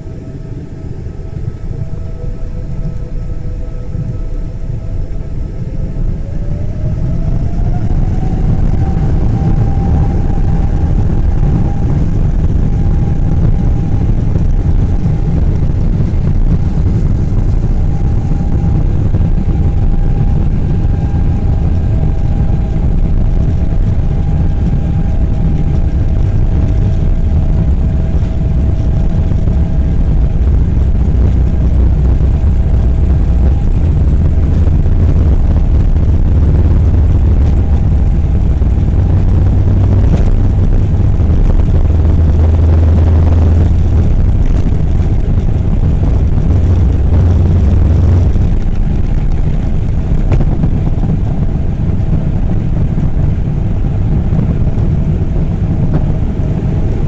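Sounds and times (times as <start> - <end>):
deep jet engine rumble: 0.0 - 57.0
jet engine whine: 0.0 - 57.0.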